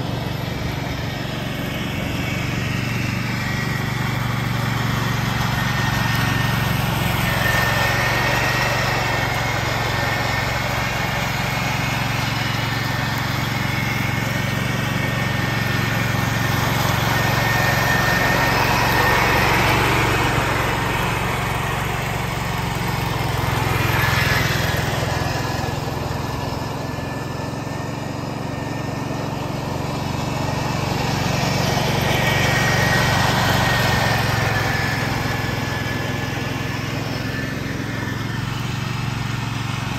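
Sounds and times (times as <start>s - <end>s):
garden tractor mowing: 0.0s - 39.9s.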